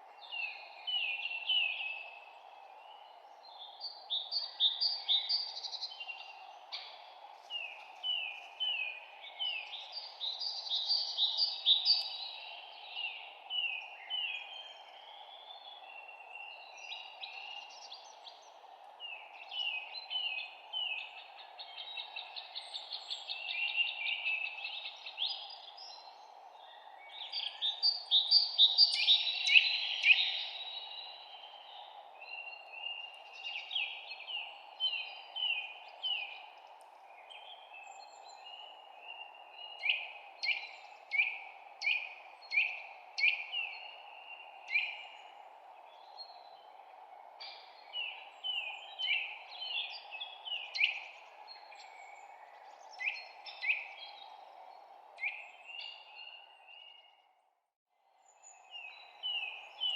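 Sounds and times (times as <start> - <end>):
songbirds chirping and singing: 0.2 - 57.2.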